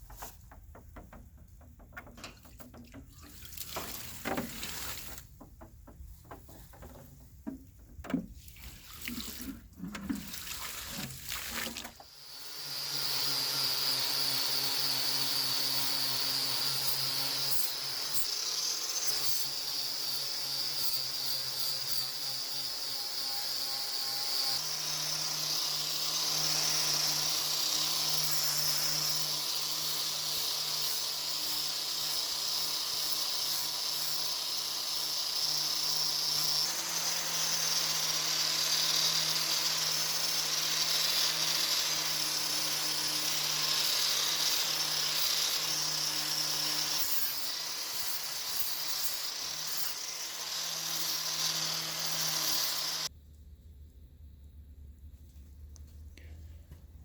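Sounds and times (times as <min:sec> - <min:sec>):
electric power tool grinding: 0:00.0 - 0:53.1.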